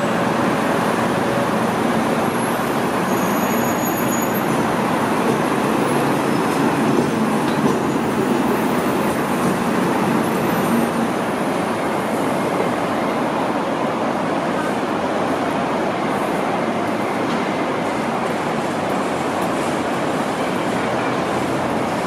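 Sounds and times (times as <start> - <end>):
heavy street traffic rumble: 0.0 - 22.0.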